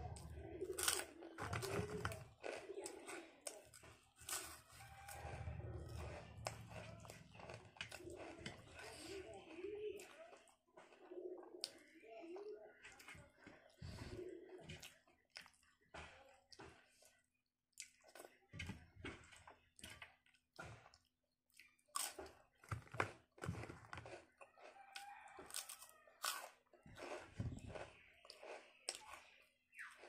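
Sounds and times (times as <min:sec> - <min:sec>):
person chewing food: 0:00.0 - 0:18.5, 0:19.1 - 0:30.0.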